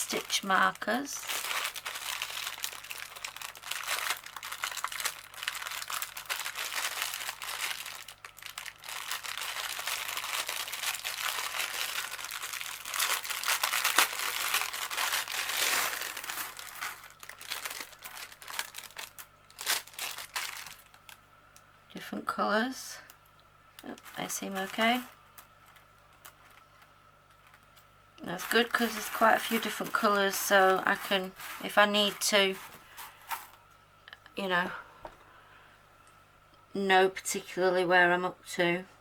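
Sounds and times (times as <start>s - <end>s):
plastic packaging crinkling: 0.0s - 21.7s, 23.8s - 33.6s.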